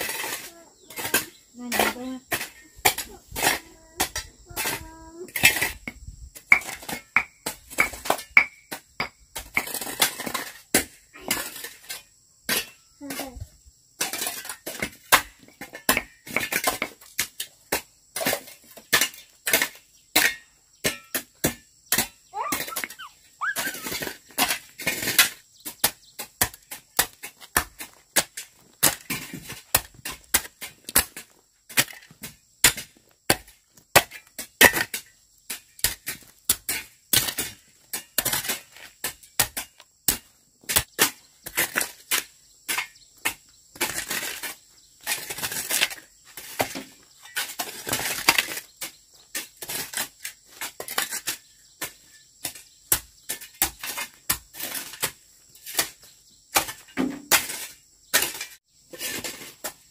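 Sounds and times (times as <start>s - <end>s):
hoes striking stony earth: 0.0s - 13.4s, 14.0s - 59.9s
hoes scraping earth: 0.0s - 59.9s.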